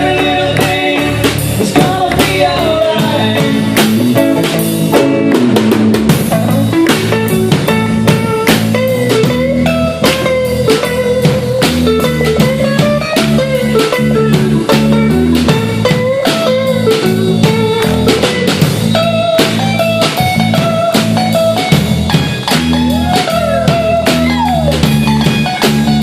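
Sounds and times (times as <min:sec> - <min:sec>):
bass: 0:00.0 - 0:26.0
drum kit beat: 0:00.0 - 0:26.0
lead guitar with bent notes: 0:00.0 - 0:26.0.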